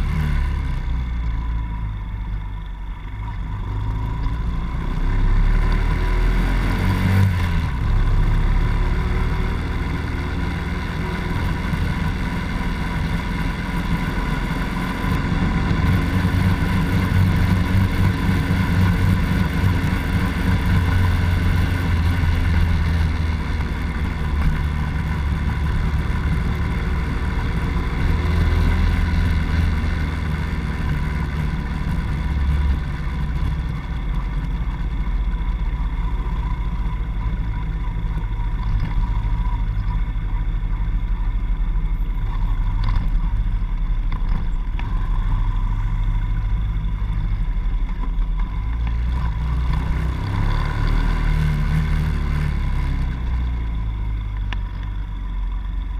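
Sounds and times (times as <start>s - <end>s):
small motorcycle engine running: 0.0s - 55.9s.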